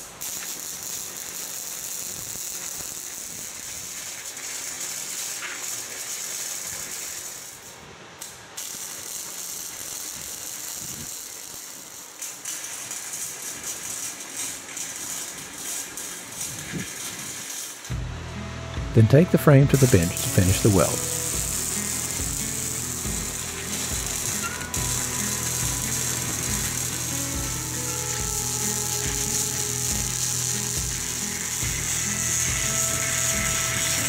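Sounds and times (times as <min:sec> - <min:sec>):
welder arc crackling: 0:00.0 - 0:18.1, 0:19.0 - 0:34.0.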